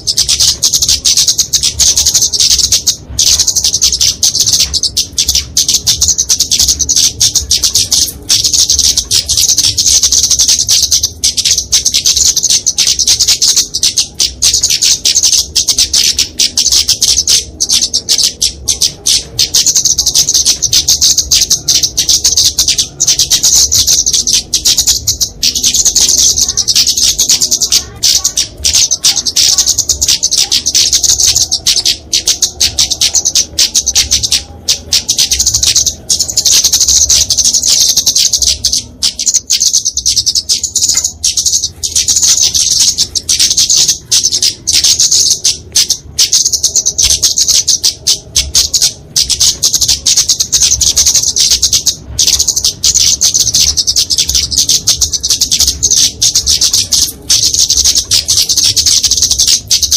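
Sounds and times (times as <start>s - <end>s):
bird chattering calls: 0.0s - 59.9s.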